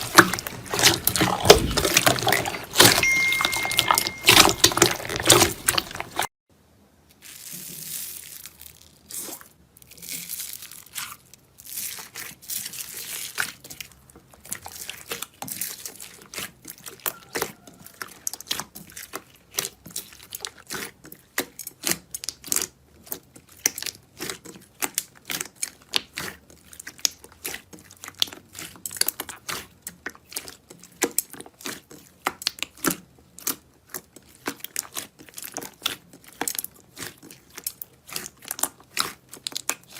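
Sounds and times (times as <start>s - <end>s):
slime squishing: 0.0s - 6.3s, 7.1s - 39.9s.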